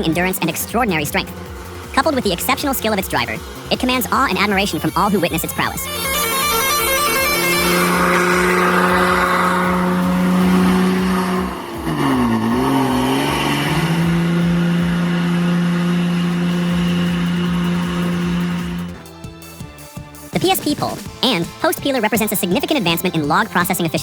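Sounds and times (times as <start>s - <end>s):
truck diesel engine under load: 0.0s - 19.6s.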